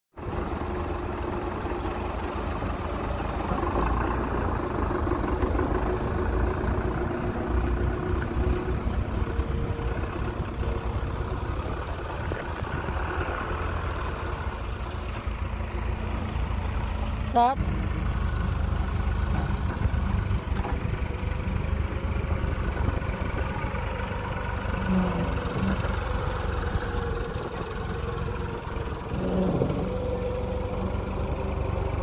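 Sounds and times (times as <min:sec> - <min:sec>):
tractor diesel engine under load: 0:00.1 - 0:32.0.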